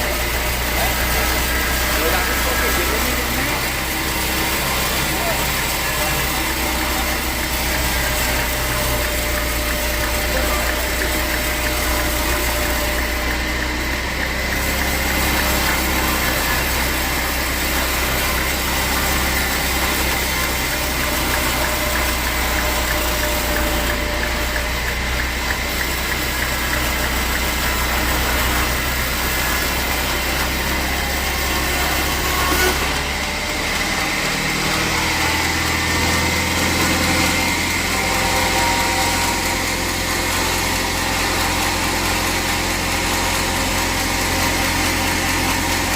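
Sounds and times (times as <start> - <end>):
sawmill machinery whirring: 0.0 - 45.9.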